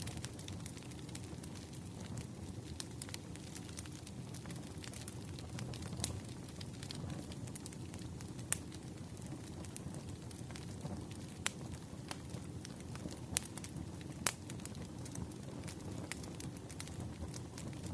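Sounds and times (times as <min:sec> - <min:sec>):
firewood crackles and pops: 0:00.0 - 0:17.9
low rumble of flames: 0:00.0 - 0:17.9.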